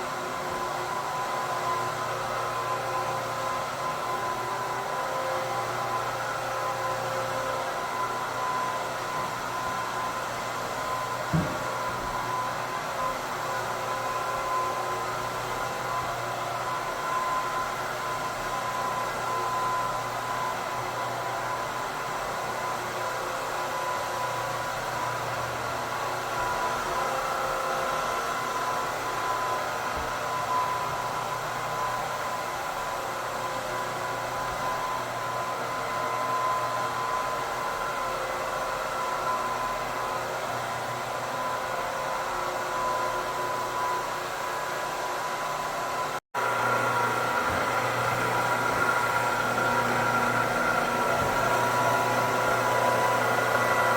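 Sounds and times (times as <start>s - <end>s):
floor buffer motor hum and whine: 0.0s - 53.9s.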